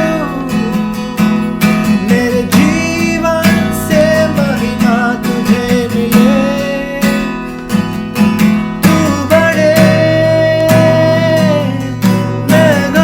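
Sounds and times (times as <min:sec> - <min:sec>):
man singing worship song: 0:00.0 - 0:07.7, 0:08.8 - 0:13.0
strummed acoustic guitar: 0:00.0 - 0:13.0.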